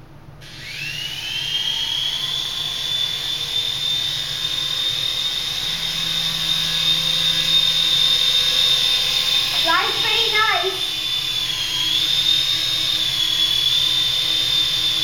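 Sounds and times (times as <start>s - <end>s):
small rotor motors whining: 0.4s - 15.0s.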